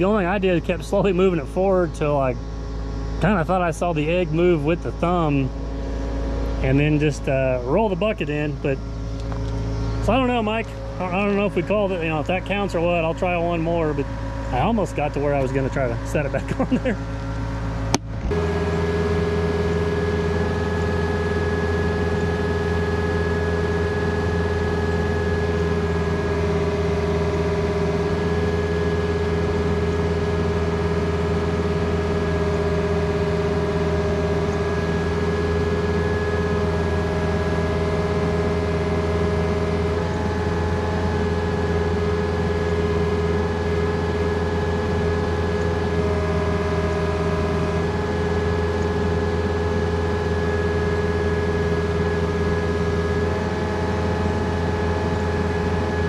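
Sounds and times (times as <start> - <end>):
excavator diesel engine running: 0.0 - 56.0
steady engine whine: 0.0 - 56.0.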